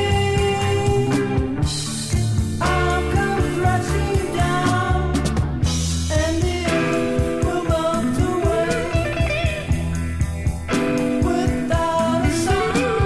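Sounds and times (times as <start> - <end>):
bass guitar: 0.0 - 13.0
rock guitar line: 0.0 - 13.0
steady drum beat: 0.0 - 13.0.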